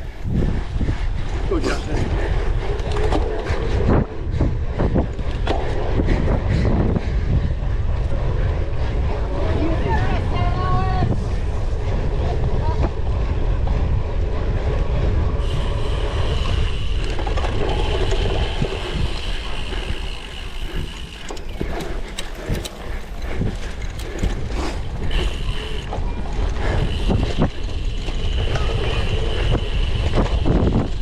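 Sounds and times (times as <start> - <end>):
bike rattling and clicking: 0.0 - 31.0
wind and tyres rumbling: 0.0 - 31.0.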